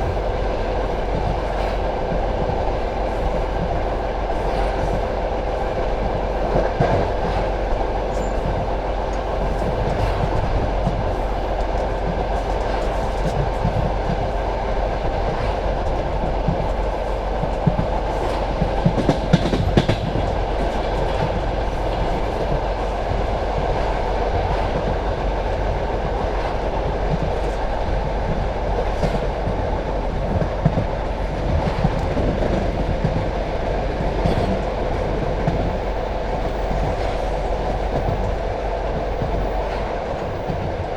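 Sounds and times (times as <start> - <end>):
clickety-clack over rail joints: 0.0 - 40.9
train wheels rumbling on rails: 0.0 - 40.9.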